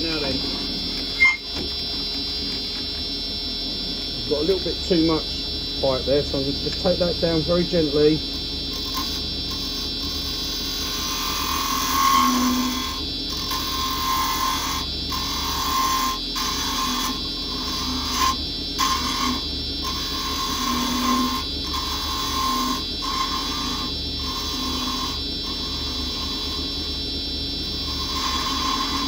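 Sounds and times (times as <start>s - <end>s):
lathe machinery whine: 0.0s - 29.0s
chisel cutting wood on lathe: 4.0s - 29.0s.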